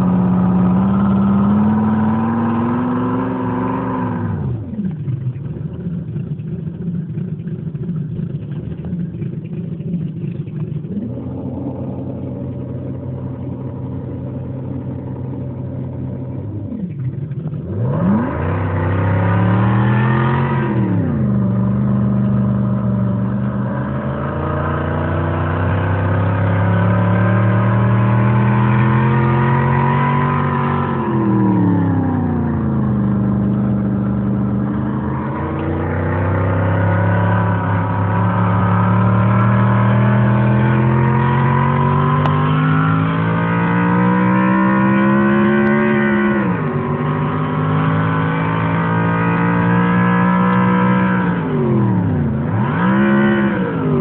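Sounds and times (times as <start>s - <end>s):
car engine revving while driving: 0.0s - 5.2s, 10.8s - 54.0s.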